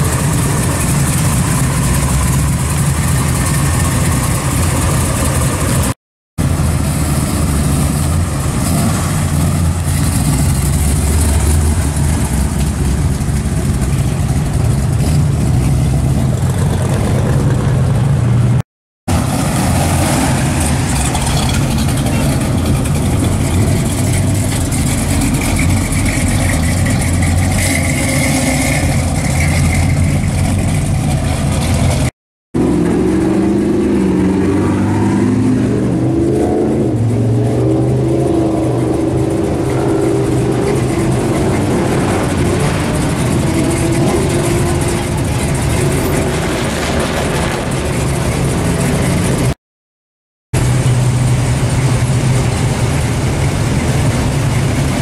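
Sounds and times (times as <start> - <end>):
car engines idling and pulling away: 0.0 - 49.6, 50.6 - 55.0.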